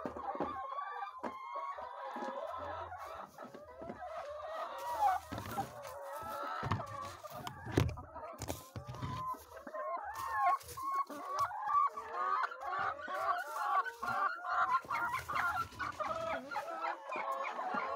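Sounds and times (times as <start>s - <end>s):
hens clucking: 0.0s - 17.9s.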